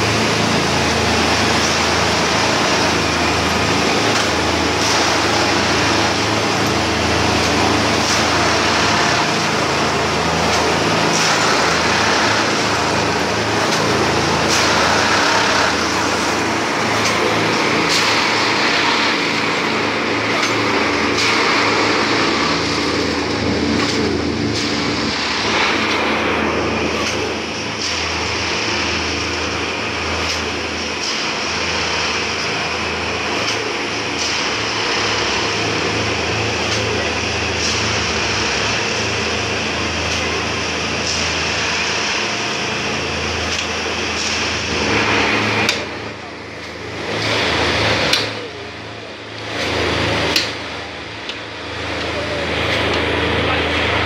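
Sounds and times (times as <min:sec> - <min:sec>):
diesel and hydraulic drone: 0:00.0 - 0:54.0.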